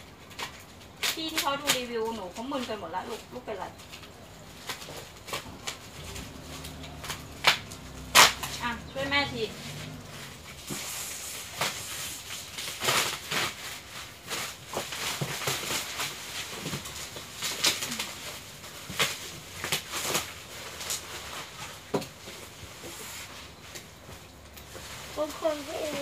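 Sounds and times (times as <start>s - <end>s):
plastic wrap crinkling and tearing: 0.0s - 26.0s.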